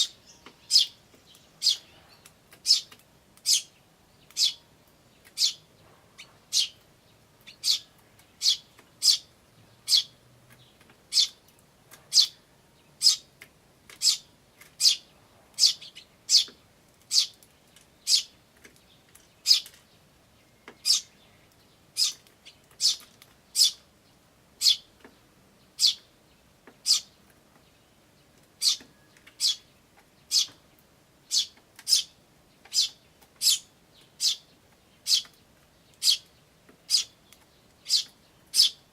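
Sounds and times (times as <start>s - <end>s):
sparrow chirping: 0.0s - 13.3s, 13.9s - 38.9s.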